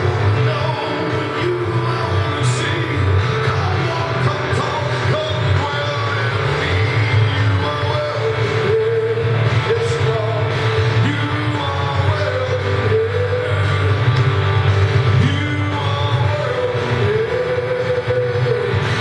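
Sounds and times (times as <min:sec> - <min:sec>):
band with steady bass: 0:00.0 - 0:19.0
person singing: 0:00.0 - 0:19.0.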